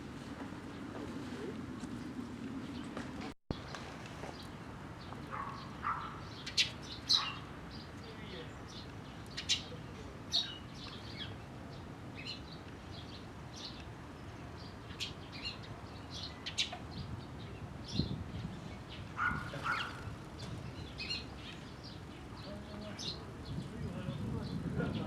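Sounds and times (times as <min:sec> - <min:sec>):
sparrows chirping: 0:03.6 - 0:25.0.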